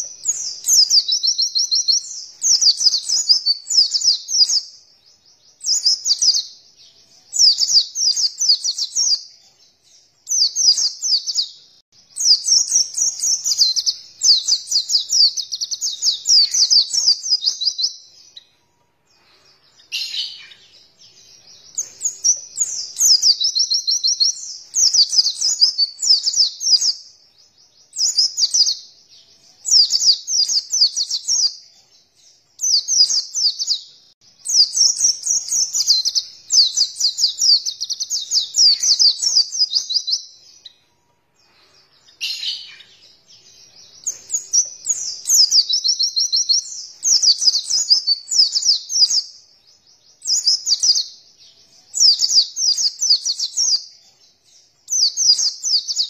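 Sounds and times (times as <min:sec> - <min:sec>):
bird singing high twittering phrases: 0:00.0 - 0:56.0.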